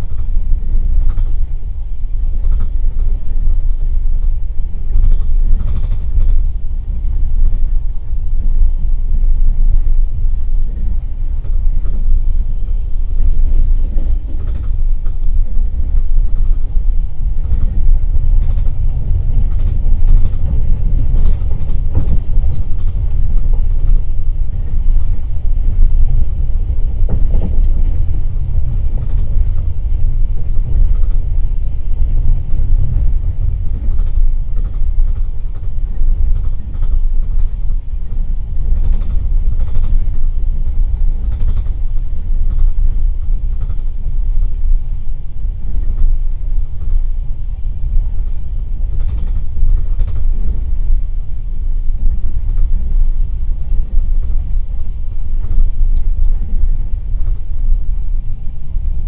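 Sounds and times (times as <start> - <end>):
rumble of wheels on rails: 0.0 - 59.0.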